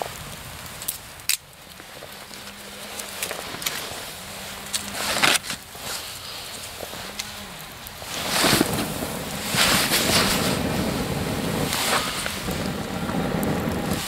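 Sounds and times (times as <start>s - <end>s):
person blowing on fire: 1.8s - 14.0s.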